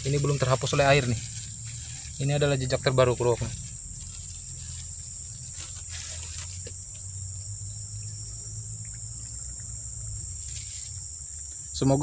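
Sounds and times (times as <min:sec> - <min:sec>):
insects buzzing: 0:00.0 - 0:12.0
low steady rumble: 0:00.0 - 0:12.0.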